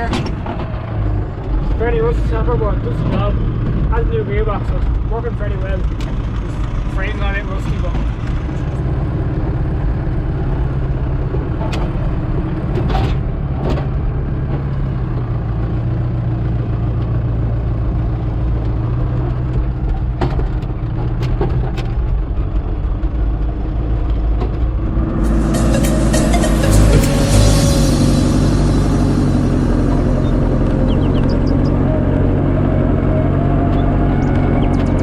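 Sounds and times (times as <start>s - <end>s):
tractor engine running under load: 0.0s - 35.0s.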